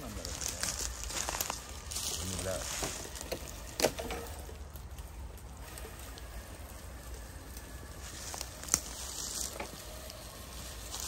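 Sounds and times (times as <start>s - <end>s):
tyres rolling over dry leaves: 0.0s - 11.0s.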